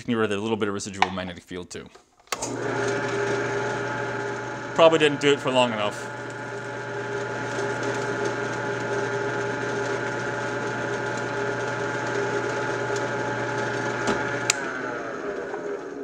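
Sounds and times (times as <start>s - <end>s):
drill press motor humming: 2.3s - 16.0s.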